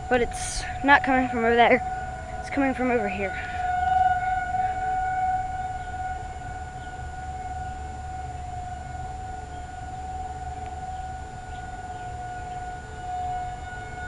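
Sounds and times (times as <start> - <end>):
steady warning siren: 0.0 - 14.0.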